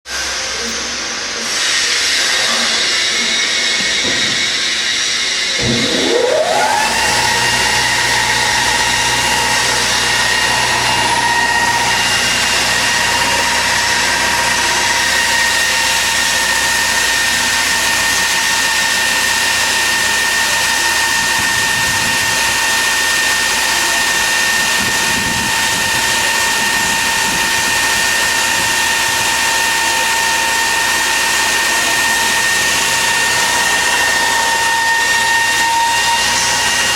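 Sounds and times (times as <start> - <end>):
grinding machine whine: 0.1 - 36.9.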